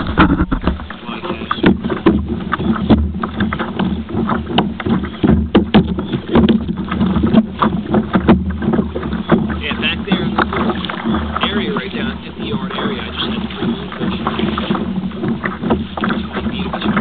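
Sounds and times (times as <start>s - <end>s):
knocks on hull: 0.0s - 17.0s
water splashing against kayak: 0.0s - 17.0s.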